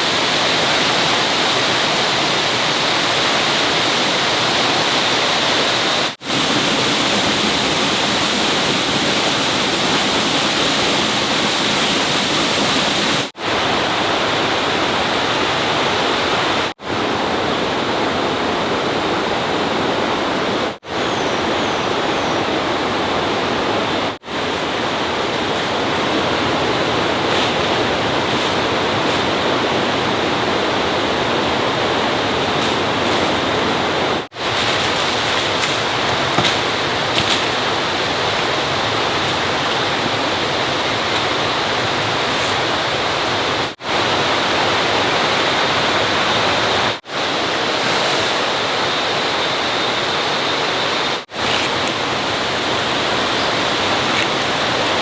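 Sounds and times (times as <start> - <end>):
running water rushing: 0.0 - 20.3, 23.2 - 55.0.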